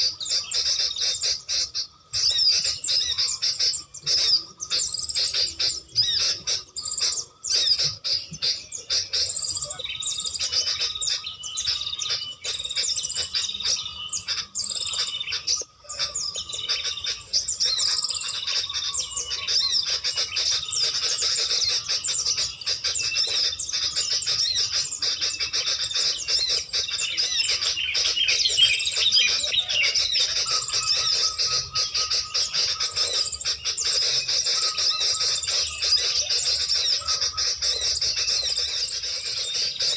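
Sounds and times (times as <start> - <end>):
small birds chirping: 0.0 - 39.9
thin steady whistle-like tone: 0.0 - 39.9.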